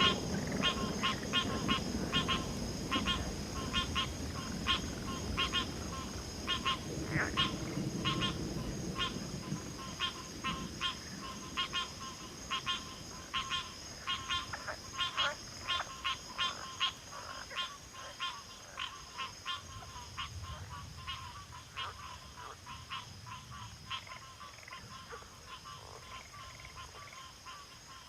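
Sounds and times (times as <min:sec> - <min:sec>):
frogs calling: 0:00.0 - 0:28.0
high-pitched insect trill: 0:00.0 - 0:28.0.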